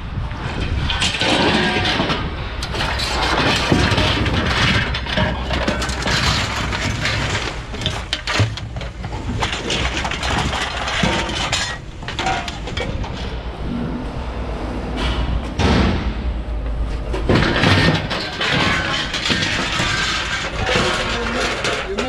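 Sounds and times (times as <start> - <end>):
scrap metal clattering into bins: 0.6 - 13.4, 17.0 - 22.0.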